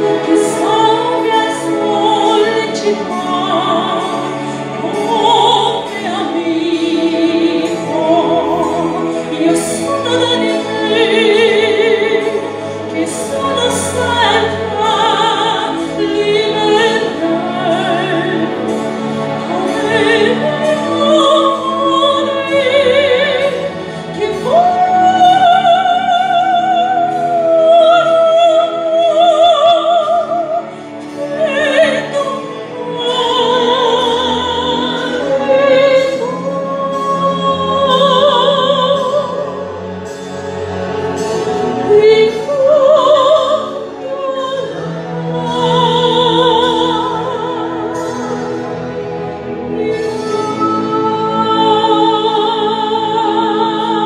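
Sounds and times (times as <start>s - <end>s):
woman singing operatically: 0.0s - 39.7s, 41.7s - 48.5s, 49.6s - 54.0s.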